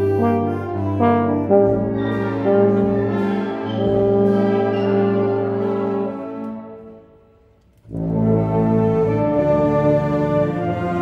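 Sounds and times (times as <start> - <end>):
brass band chords: 0.0 - 11.0.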